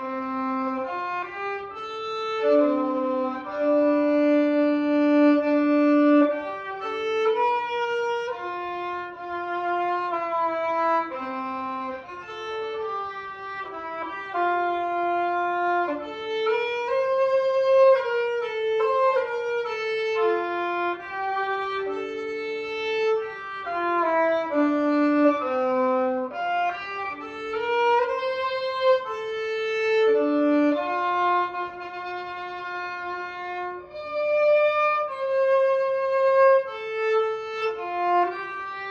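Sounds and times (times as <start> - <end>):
violin playing a flowing melody: 0.0 - 38.9.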